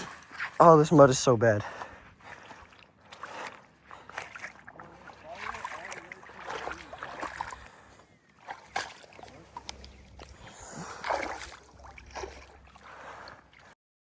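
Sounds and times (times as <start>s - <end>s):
shallow water splashing: 0.0s - 13.8s.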